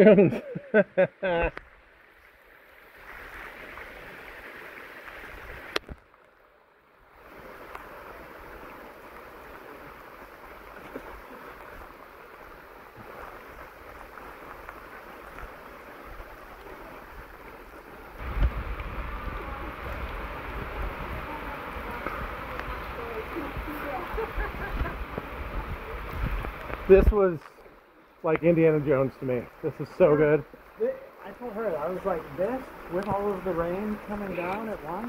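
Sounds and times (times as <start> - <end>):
rain falling on trees: 0.0 - 35.0.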